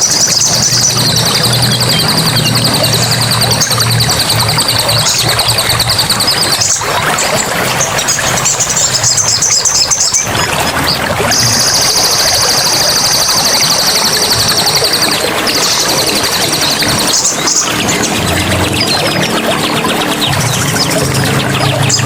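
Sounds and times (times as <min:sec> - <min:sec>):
bird chirps: 0:00.0 - 0:22.0
running water: 0:00.0 - 0:22.0.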